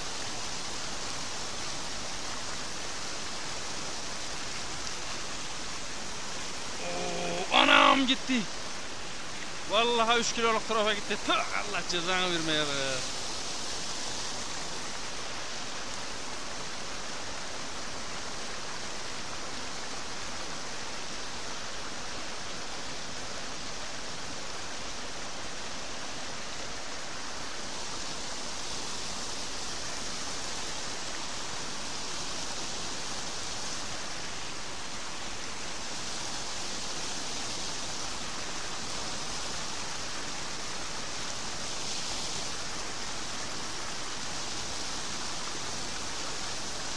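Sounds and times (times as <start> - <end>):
white water rushing: 0.0 - 46.9.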